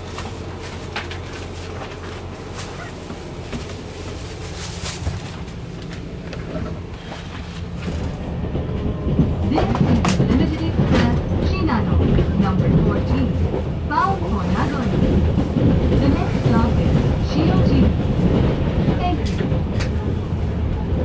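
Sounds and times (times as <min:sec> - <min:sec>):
low rumble of train running gear: 0:00.0 - 0:21.0
wheels clicking on rails: 0:00.0 - 0:21.0.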